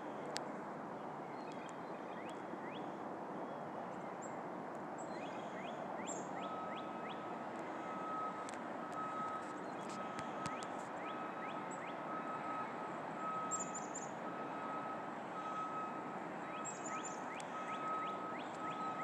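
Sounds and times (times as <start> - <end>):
distant car traffic hum: 0.0 - 19.0.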